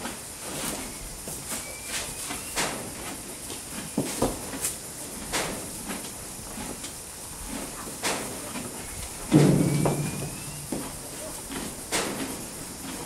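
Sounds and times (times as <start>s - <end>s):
horse knocks and rustles in hay: 0.4s - 6.8s, 7.5s - 12.9s.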